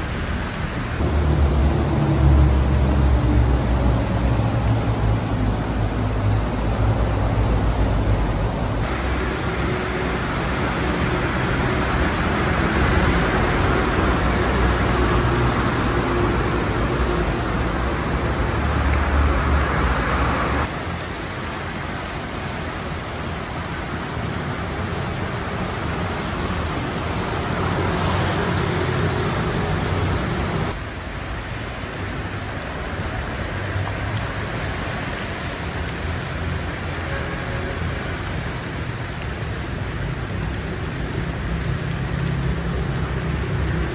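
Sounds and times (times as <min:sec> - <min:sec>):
floodwater rushing: 0:00.0 - 0:43.9
road traffic rumble: 0:00.0 - 0:43.9.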